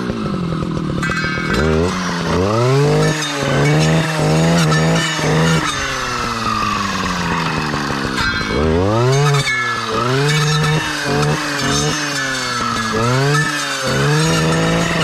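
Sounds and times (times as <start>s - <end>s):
clearing saw engine revving: 0.0s - 15.0s.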